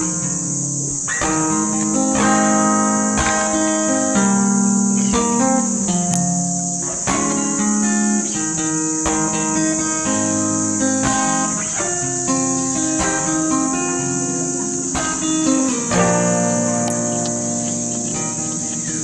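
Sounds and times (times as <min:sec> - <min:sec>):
acoustic guitar picking: 0:00.0 - 0:19.0
crickets chirring: 0:00.0 - 0:19.0.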